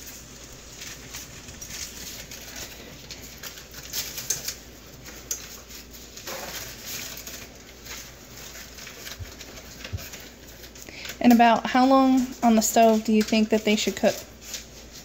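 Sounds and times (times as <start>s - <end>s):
broth boiling and bubbling: 0.0s - 15.0s.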